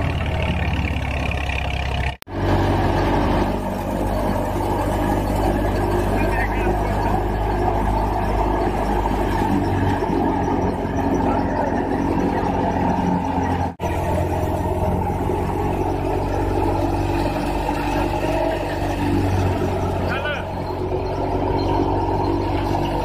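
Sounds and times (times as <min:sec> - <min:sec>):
threshing drum whirring: 0:00.0 - 0:23.0
tractor engine droning: 0:00.0 - 0:23.0.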